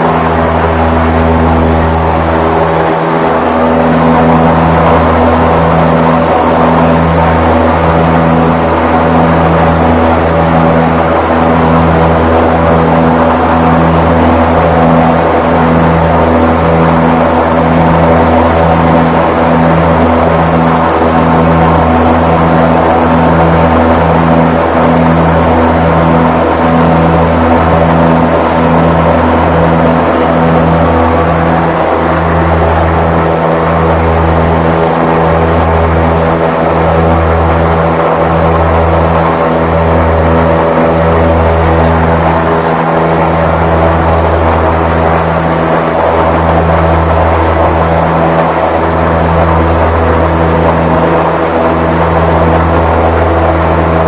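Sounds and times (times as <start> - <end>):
blimp engines droning: 0.0 - 54.0.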